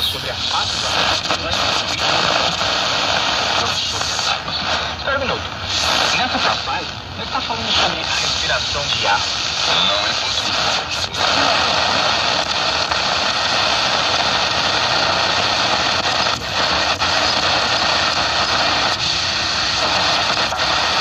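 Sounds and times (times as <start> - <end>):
shortwave radio static hiss: 0.0 - 21.0.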